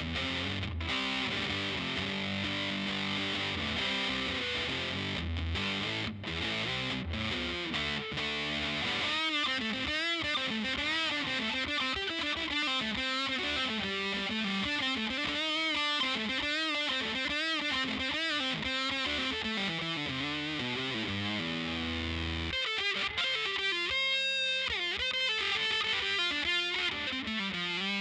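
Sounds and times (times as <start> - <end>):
fuzz electric guitar lead: 0.0 - 28.0.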